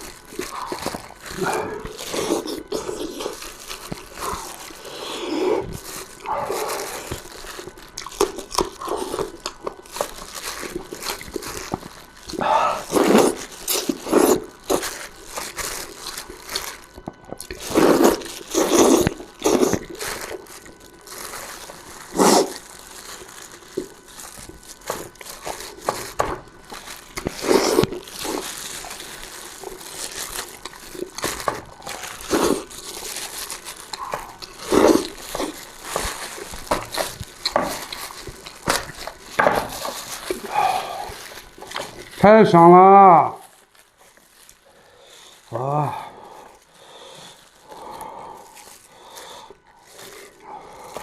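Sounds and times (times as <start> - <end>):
wet slurping and chewing: 0.0 - 42.2, 43.5 - 51.0.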